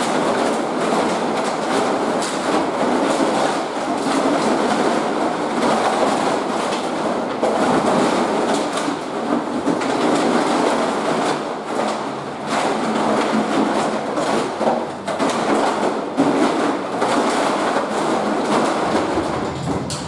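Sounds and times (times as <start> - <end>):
plastic bottles clattering: 0.0 - 20.0.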